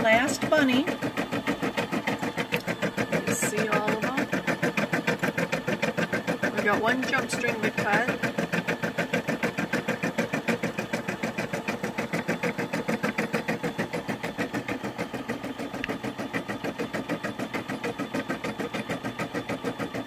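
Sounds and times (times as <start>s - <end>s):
embroidery machine stitching: 0.0s - 20.0s.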